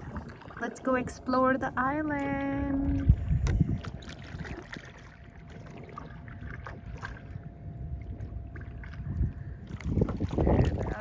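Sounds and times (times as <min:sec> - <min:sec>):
paddle strokes splashing water: 0:00.0 - 0:01.4, 0:02.1 - 0:11.0
low rumble: 0:00.0 - 0:11.0.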